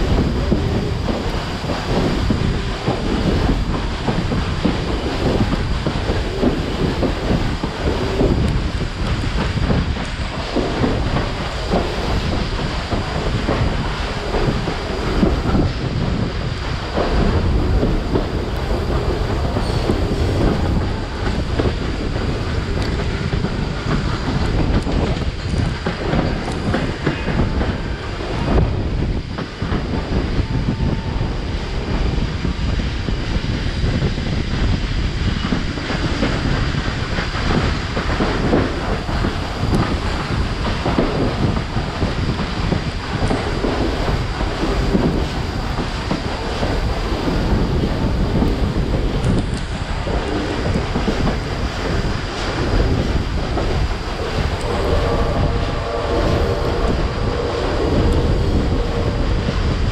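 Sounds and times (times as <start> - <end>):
train carriage rumble: 0.0 - 59.9.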